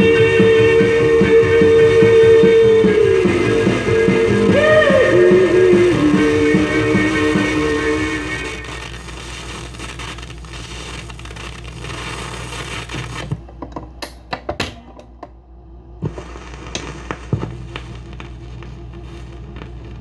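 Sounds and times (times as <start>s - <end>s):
stylus hum and hiss: 0.0s - 13.6s, 15.3s - 20.0s.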